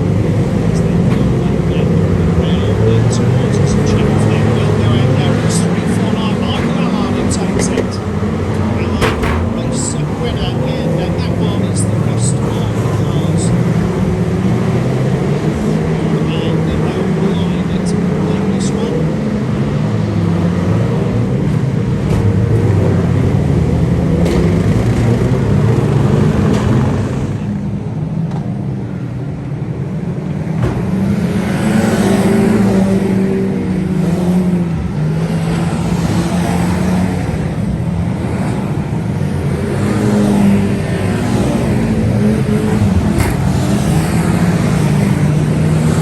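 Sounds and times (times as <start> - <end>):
racing cars revving and passing: 0.0 - 46.0.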